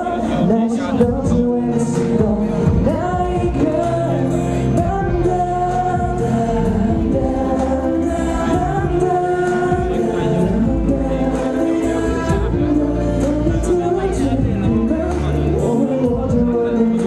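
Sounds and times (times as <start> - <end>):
instrumental accompaniment: 0.0 - 17.0
man singing into microphone: 0.0 - 17.0.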